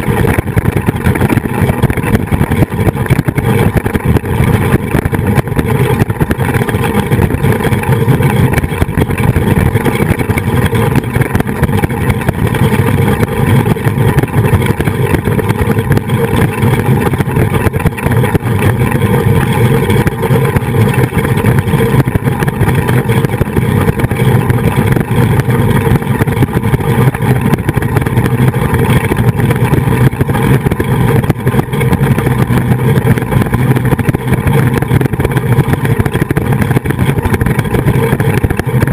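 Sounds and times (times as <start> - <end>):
pulleys whirring on cable: 0.0 - 38.9
wind on microphone: 0.0 - 38.9.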